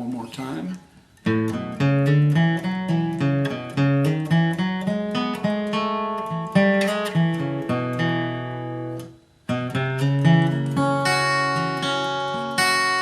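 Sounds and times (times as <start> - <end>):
acoustic guitar flatpicking: 0.1 - 13.0.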